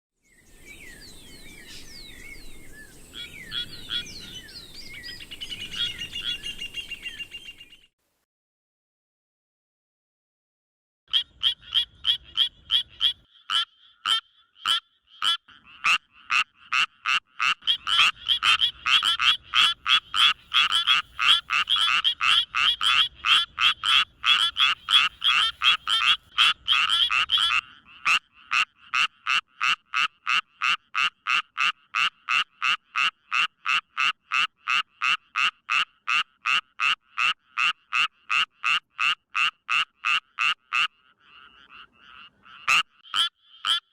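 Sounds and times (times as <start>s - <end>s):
frogs croaking: 1.5s - 6.9s, 11.1s - 43.9s.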